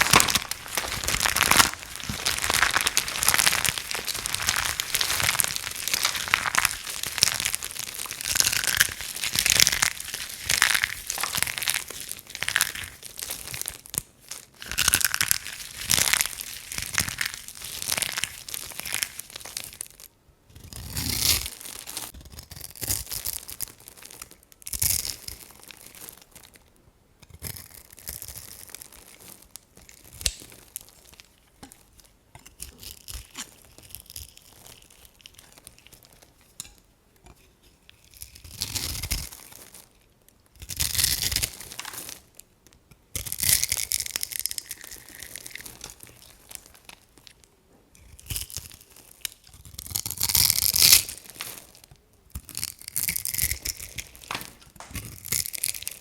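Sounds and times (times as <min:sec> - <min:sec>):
dry soap crunching: 0:00.0 - 0:26.7, 0:27.3 - 0:36.8, 0:37.6 - 0:56.0.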